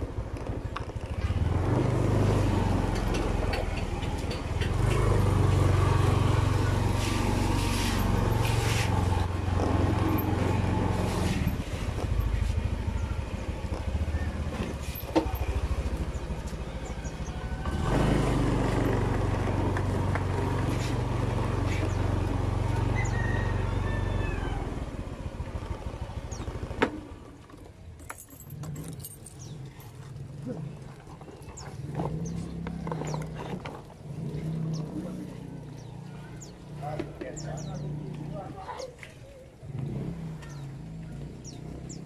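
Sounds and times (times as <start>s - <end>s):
motor scooter engine running: 0.0s - 42.0s.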